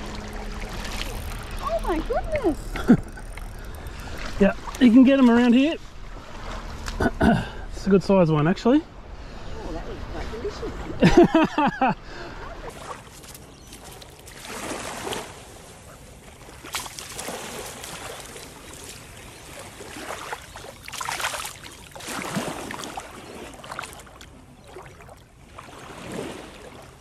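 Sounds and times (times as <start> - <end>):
shallow water sloshing: 0.0 - 11.5, 12.2 - 27.0.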